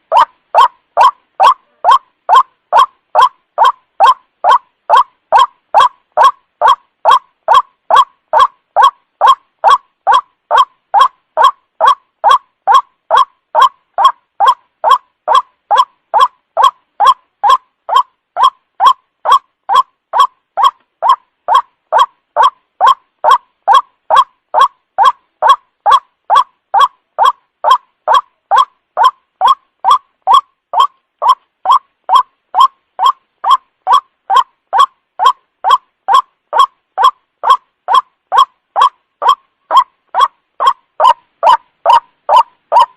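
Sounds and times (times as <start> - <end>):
waterhen croaking calls: 0.0 - 42.9.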